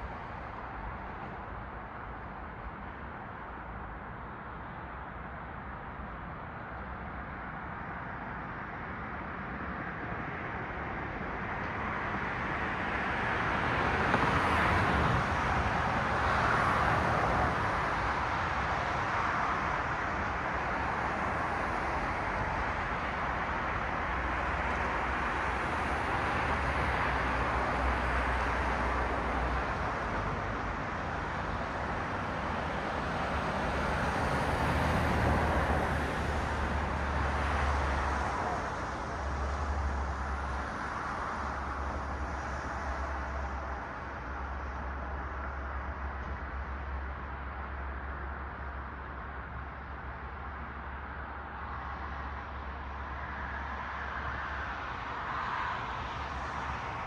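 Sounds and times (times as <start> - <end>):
engine rumble of passing cars: 6.4 - 57.0.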